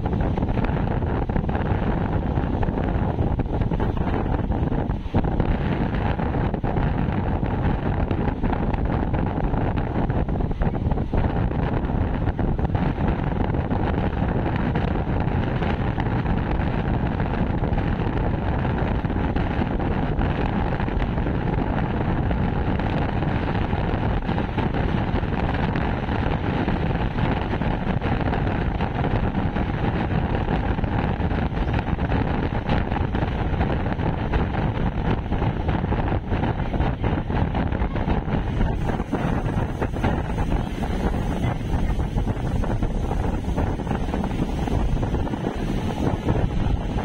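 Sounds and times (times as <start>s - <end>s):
train rumbling: 0.0s - 47.0s
wind on microphone: 0.0s - 47.0s.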